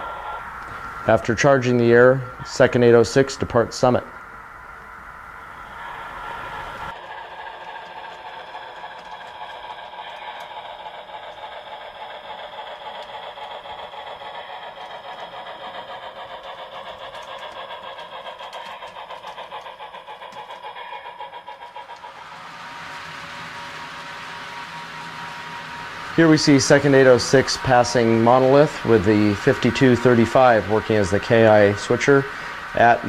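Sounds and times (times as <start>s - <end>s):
steady hiss: 0.0s - 33.0s
steam locomotive exhaust chuff: 0.0s - 33.0s.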